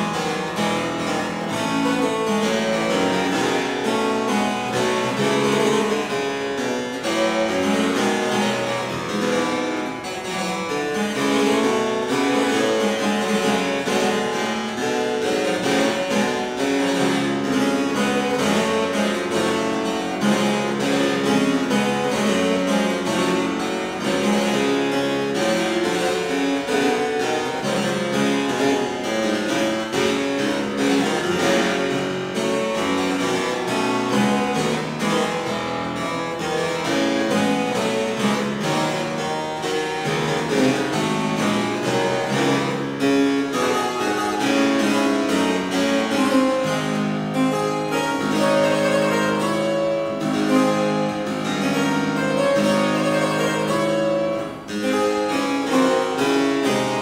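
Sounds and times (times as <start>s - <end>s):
solo harpsichord playing: 0.0s - 57.0s.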